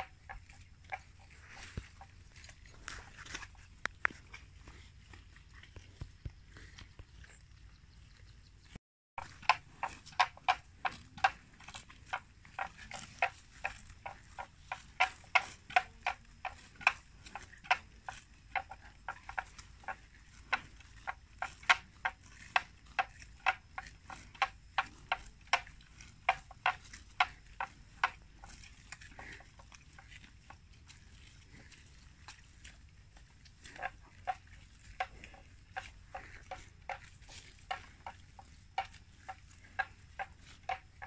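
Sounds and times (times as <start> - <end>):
water buffalo tearing grass: 0.0 - 7.4, 9.2 - 41.0.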